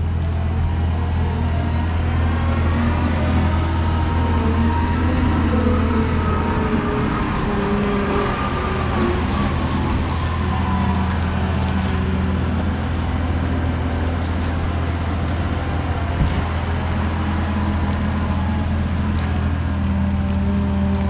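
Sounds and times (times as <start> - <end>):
road rumble: 0.0 - 21.0
road vehicle running hum: 0.0 - 21.0.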